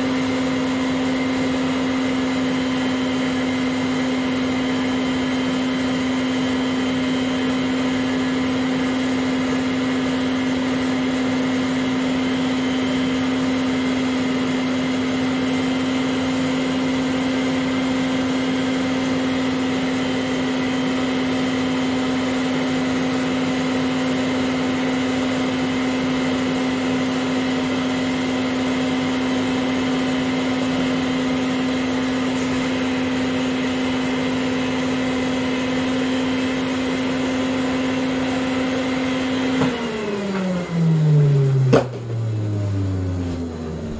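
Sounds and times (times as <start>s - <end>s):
vacuum cleaner motor hum: 0.0s - 43.9s.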